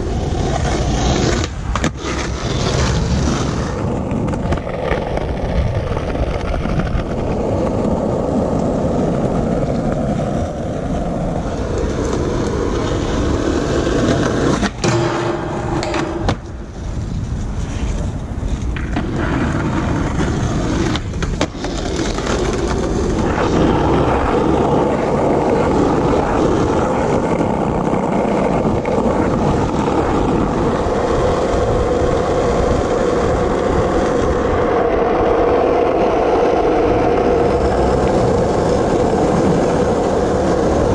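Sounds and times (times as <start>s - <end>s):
skateboard clacks: 0.0s - 40.9s
skateboard wheels rolling on asphalt: 0.0s - 40.9s.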